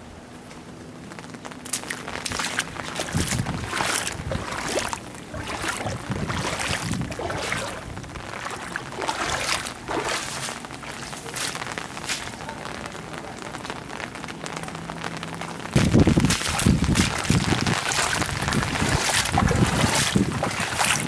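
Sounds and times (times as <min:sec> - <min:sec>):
rain falling on water: 0:00.0 - 0:21.0
footsteps splashing through water: 0:01.1 - 0:13.1, 0:15.8 - 0:21.0.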